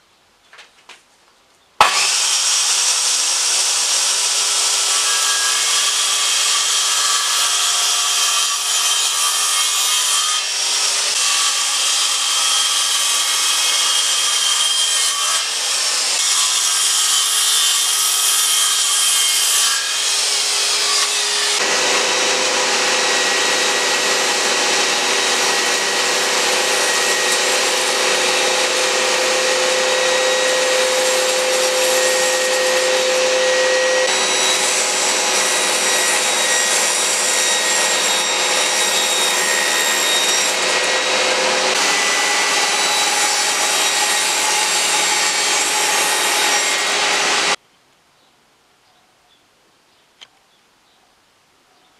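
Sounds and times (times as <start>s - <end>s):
circular saw cutting plywood: 1.8s - 47.6s
table saw cutting boards: 1.8s - 47.6s.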